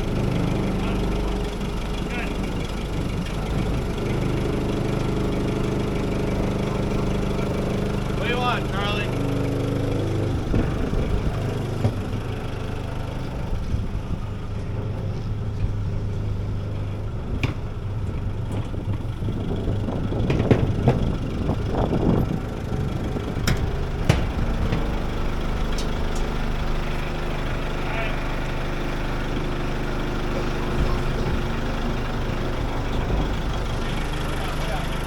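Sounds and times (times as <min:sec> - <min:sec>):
backhoe engine running: 0:00.0 - 0:35.0.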